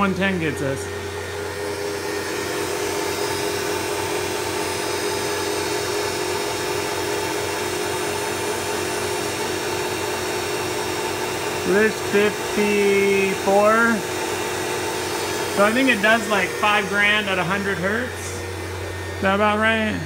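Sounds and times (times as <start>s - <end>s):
milling machine spindle whine: 0.0s - 20.0s.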